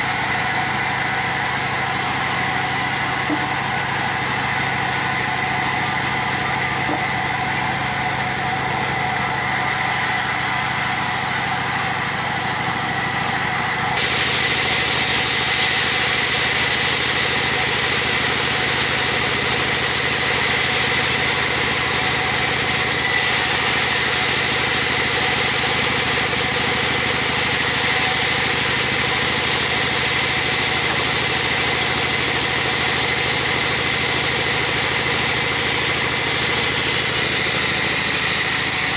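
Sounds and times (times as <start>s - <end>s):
machine running with high whine: 0.0s - 38.9s.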